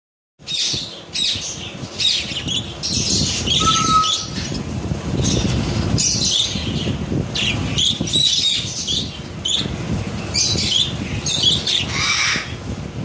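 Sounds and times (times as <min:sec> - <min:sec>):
budgerigars chirping and chattering: 0:00.5 - 0:09.7, 0:10.3 - 0:12.5.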